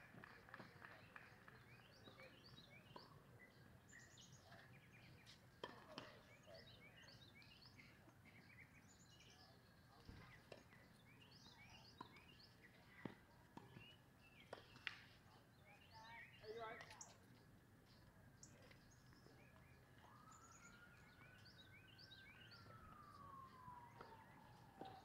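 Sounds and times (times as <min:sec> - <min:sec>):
low outdoor hum: 0:00.0 - 0:25.0
faint birds chirping: 0:00.2 - 0:25.0.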